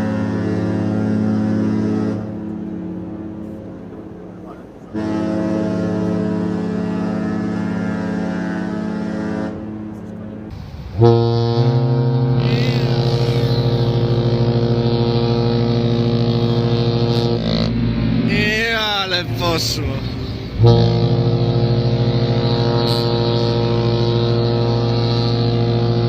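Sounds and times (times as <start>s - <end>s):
deep ship's horn blast: 0.0s - 26.0s
higher ship's horn blast: 0.0s - 26.0s.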